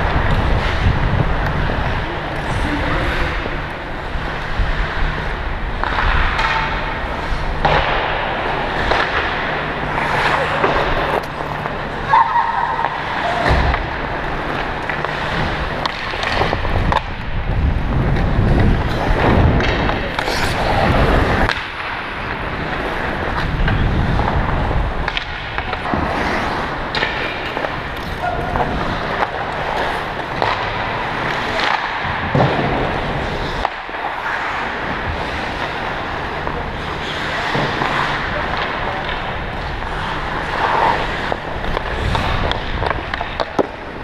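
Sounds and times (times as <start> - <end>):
skate blades scraping on ice: 0.0 - 44.0
stick and puck clacks: 0.0 - 44.0.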